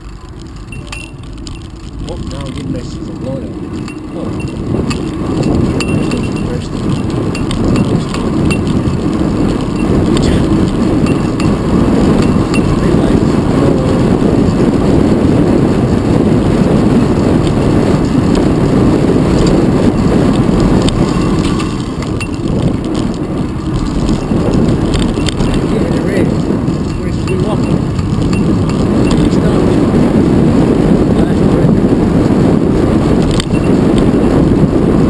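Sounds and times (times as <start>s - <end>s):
road rumble: 0.0s - 35.0s
wind rush: 0.0s - 35.0s.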